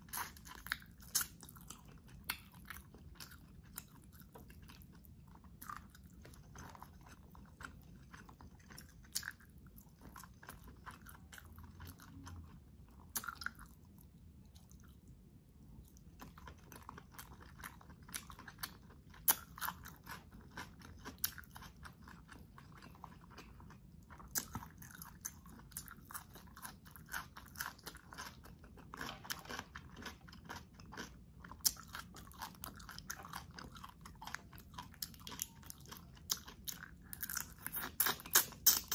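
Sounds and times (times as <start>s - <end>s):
chewing and biting crunches: 0.0s - 15.0s, 15.9s - 38.9s.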